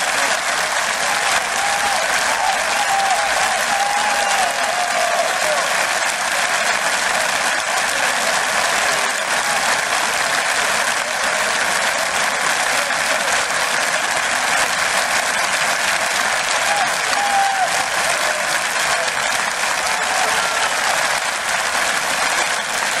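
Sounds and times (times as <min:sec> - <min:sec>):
stadium crowd applauding: 0:00.0 - 0:23.0.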